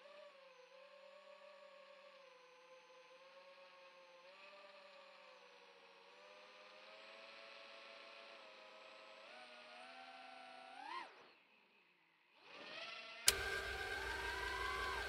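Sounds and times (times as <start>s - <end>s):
faint quadcopter motor whine: 0.0s - 15.0s.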